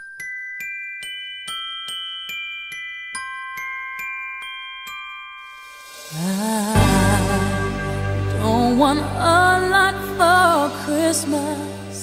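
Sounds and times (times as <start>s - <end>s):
bell-like melody: 0.0s - 12.0s.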